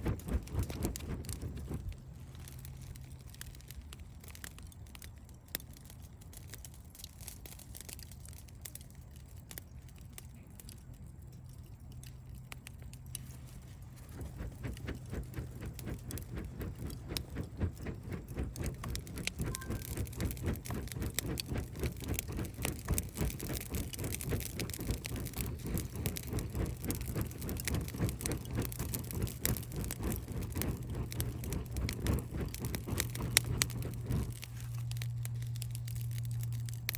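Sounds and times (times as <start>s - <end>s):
campfire crackling: 0.0s - 36.9s
low steady hum: 0.0s - 36.9s.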